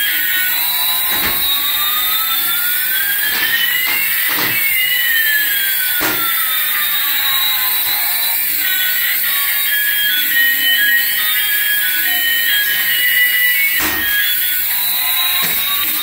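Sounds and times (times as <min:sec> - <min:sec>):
sweeping whistling tones: 0:00.0 - 0:16.0.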